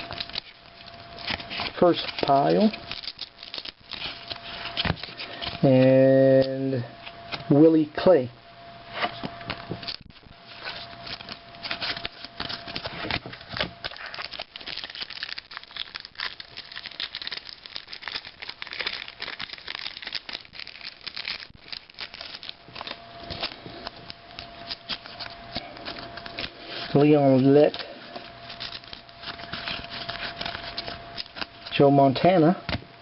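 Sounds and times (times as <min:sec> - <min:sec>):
card wrappers crinkling and tearing: 0:00.0 - 0:07.4, 0:09.0 - 0:32.2.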